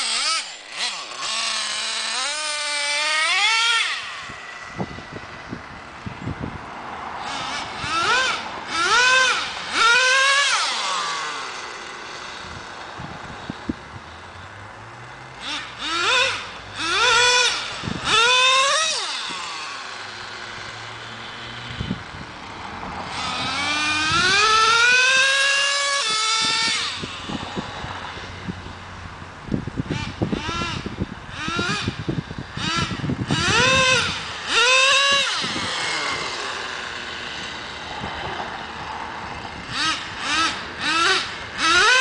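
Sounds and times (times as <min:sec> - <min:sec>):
small nitro engine revving: 0:00.0 - 0:42.0.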